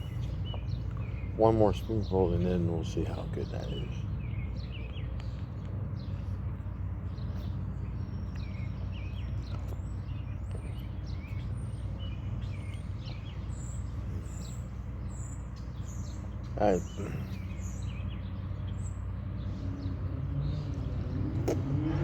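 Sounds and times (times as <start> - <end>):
steady low hum: 0.0 - 21.7
small birds chirping: 0.0 - 22.0.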